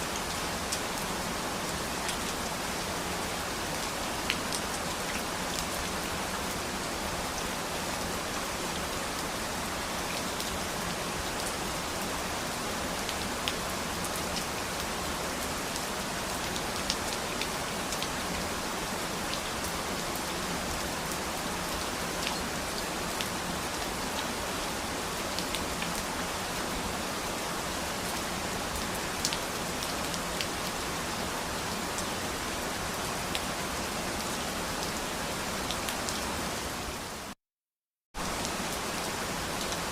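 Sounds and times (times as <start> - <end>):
rain falling: 0.0 - 37.4, 38.2 - 39.9.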